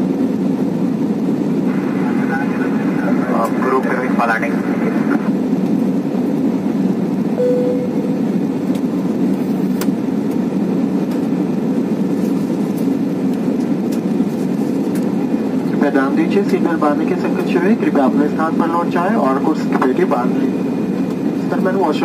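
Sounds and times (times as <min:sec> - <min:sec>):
jet airliner cabin drone: 0:00.0 - 0:22.0.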